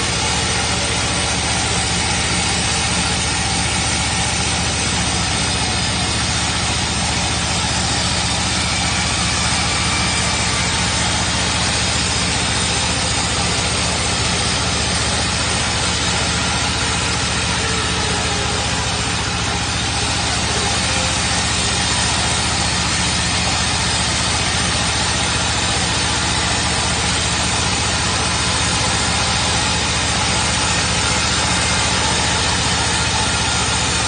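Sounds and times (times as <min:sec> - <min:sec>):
band sawmill cutting log: 0:00.0 - 0:34.0.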